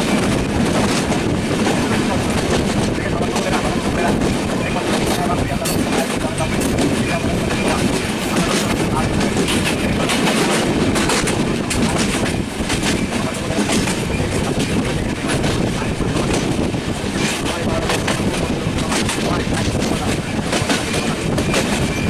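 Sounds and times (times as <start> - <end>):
train wheels clattering on rail joints: 0.0 - 22.0.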